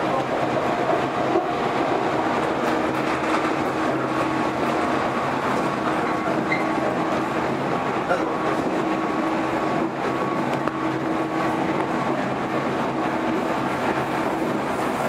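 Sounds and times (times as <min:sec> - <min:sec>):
train rolling on rails: 0:00.0 - 0:15.0.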